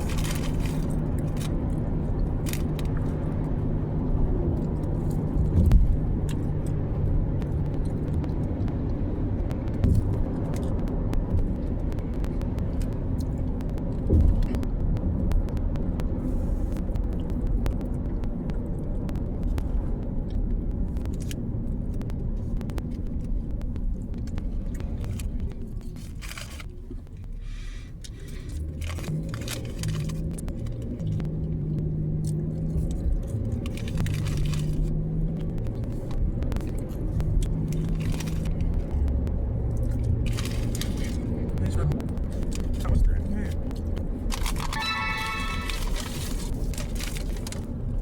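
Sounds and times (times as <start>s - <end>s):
small clicks and rustles: 0.0s - 44.8s, 45.7s - 48.0s
car engine rumbling: 0.0s - 48.0s.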